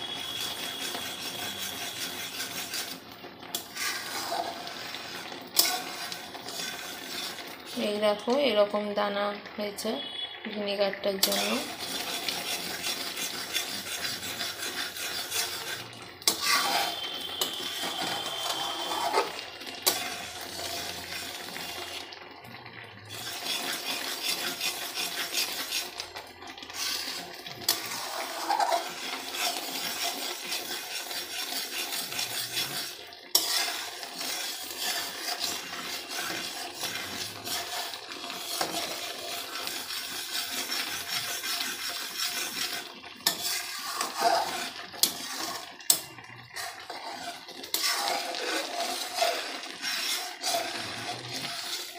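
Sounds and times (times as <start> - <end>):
spatula scraping metal pan: 0.0 - 8.4, 11.2 - 22.0, 23.1 - 26.0, 26.6 - 51.9
milk bubbling: 0.0 - 51.9.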